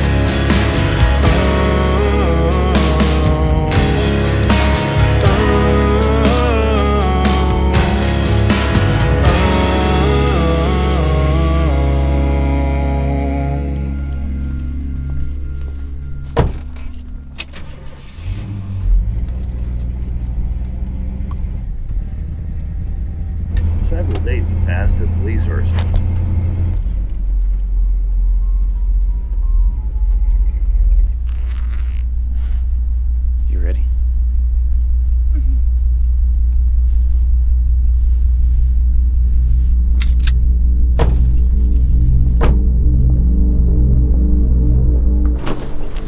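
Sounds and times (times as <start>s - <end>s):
car engine starting and running: 0.0s - 46.0s.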